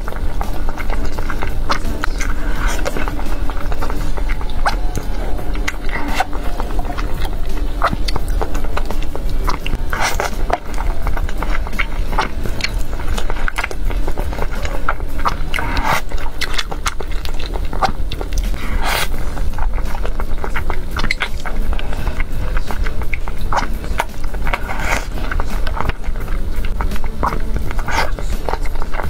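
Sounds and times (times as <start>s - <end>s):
mouth clicks: 0.0s - 29.0s
noodle slurps: 0.0s - 29.0s
wet chewing: 0.0s - 29.0s.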